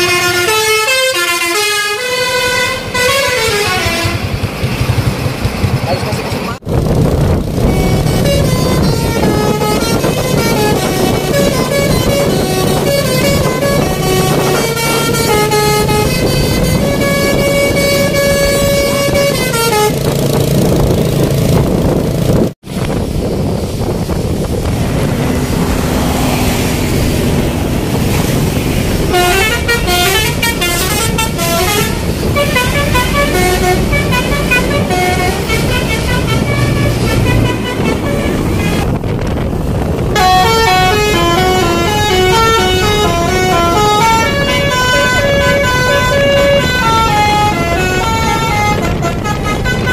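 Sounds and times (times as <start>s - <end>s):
musical bus horns: 0.0s - 4.6s, 7.6s - 20.8s, 24.8s - 39.2s, 39.8s - 49.9s
road and engine noise: 0.0s - 49.9s.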